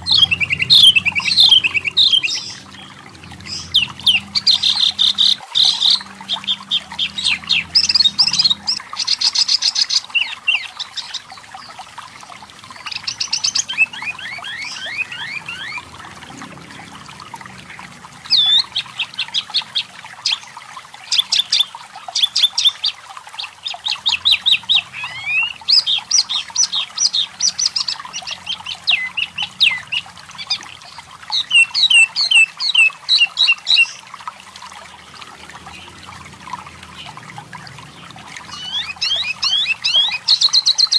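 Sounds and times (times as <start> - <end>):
bird chirping and trilling: 0.0 - 11.8, 12.6 - 17.0, 18.2 - 34.1, 37.9 - 40.9.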